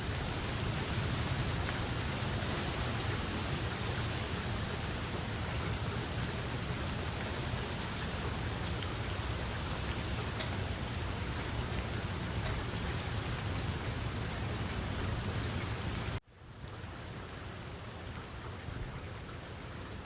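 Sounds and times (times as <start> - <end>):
steady rain: 0.0 - 20.0
raindrop ticks: 0.1 - 16.8, 18.0 - 19.4.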